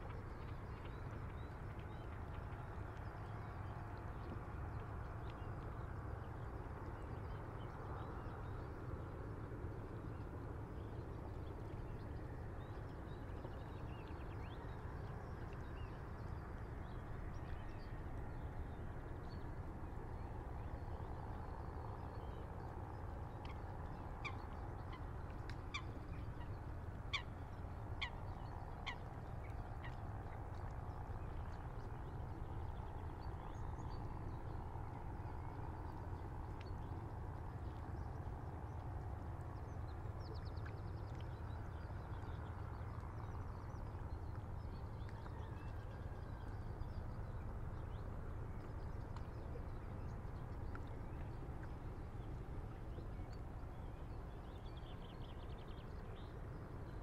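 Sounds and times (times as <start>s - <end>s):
light breeze: 0.0s - 57.0s.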